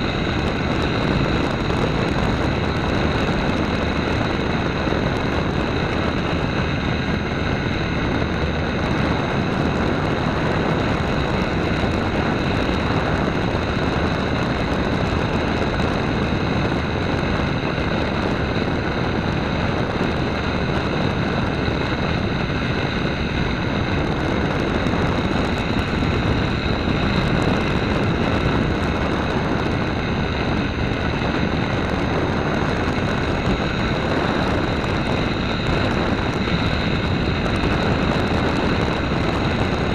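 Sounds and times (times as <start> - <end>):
model airplane motor whine: 0.0 - 39.9
rush of air: 0.0 - 39.9.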